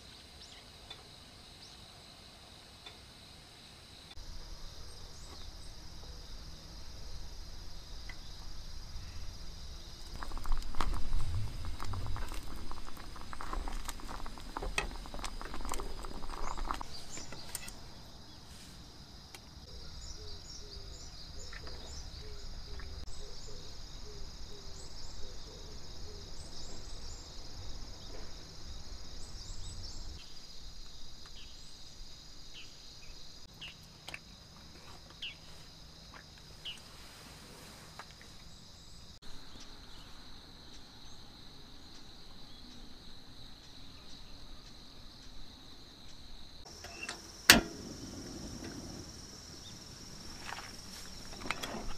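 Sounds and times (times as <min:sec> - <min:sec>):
insects trilling drone: 0:00.0 - 0:51.9.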